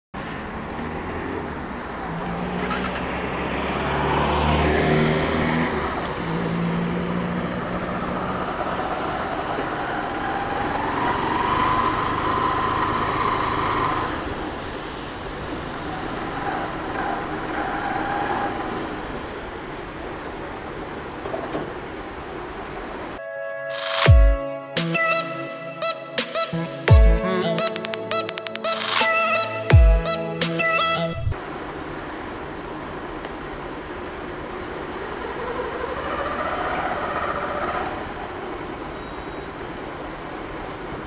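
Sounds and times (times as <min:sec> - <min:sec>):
passing traffic: 0:00.2 - 0:41.0.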